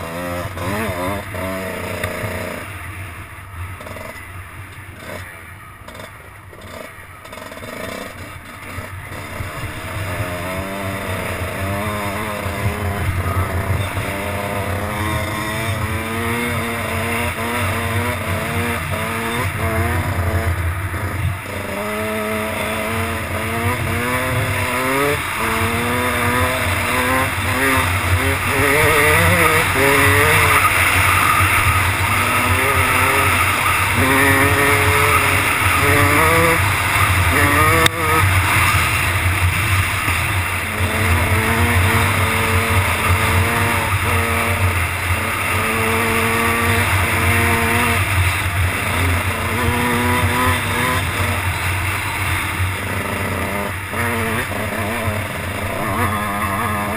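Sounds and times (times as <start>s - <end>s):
dirt bike engine revving: 0.0s - 3.1s, 3.7s - 56.9s.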